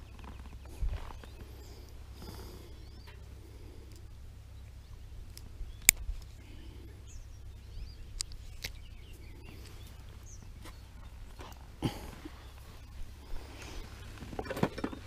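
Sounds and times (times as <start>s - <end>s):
faint bird chirps: 0.0s - 15.0s
low steady rumble: 0.0s - 15.0s.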